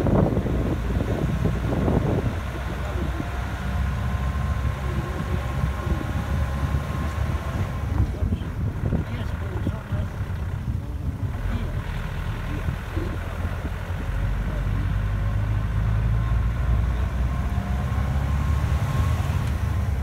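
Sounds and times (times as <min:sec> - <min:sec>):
vehicle on gravel road: 0:00.0 - 0:20.0.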